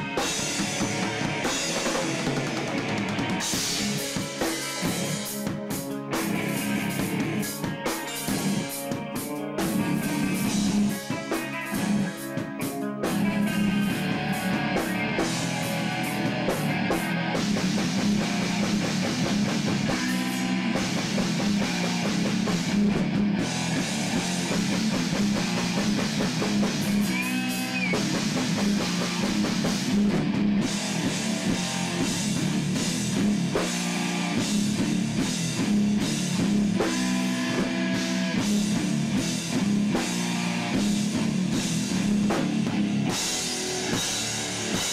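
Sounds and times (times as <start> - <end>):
bass guitar: 0.0 - 44.9
drum kit: 0.0 - 44.9
electric guitars: 0.0 - 44.9.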